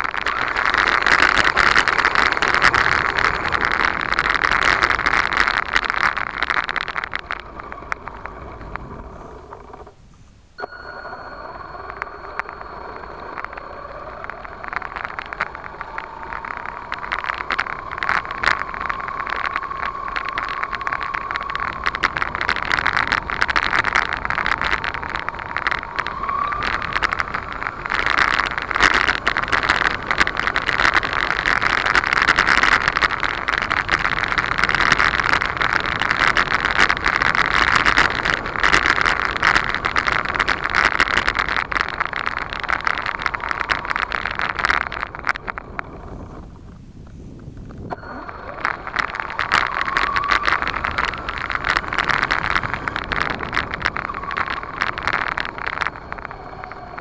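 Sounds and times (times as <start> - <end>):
tyres crackling on rough ground: 0.0 - 57.0.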